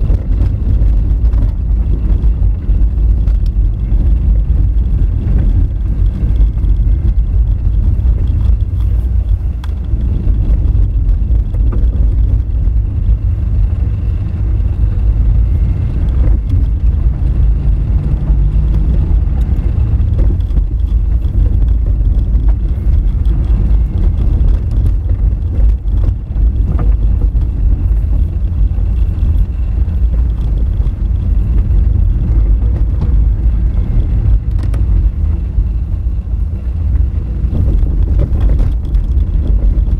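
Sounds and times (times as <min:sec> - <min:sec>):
car rumbling on gravel road: 0:00.0 - 0:39.9.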